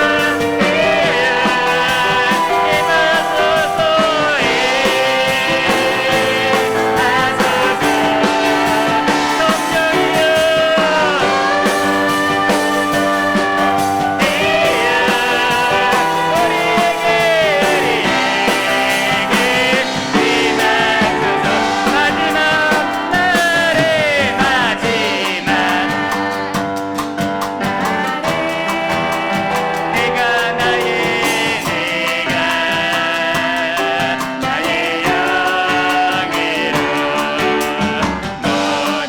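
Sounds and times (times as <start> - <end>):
drum kit: 0.0 - 39.0
people singing worship song: 0.0 - 39.0
piano: 0.0 - 39.0.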